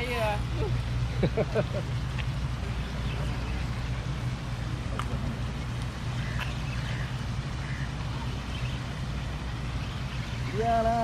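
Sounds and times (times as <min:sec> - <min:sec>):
faint distant voices: 0:00.0 - 0:11.0
low mechanical hum: 0:00.0 - 0:11.0.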